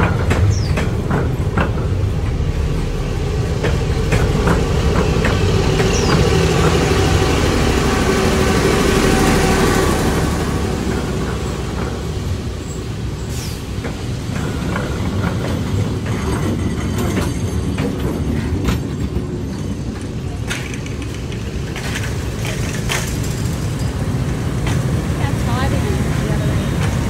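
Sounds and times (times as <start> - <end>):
train rumbling past: 0.0 - 27.0
wheels clicking over rails: 0.0 - 27.0.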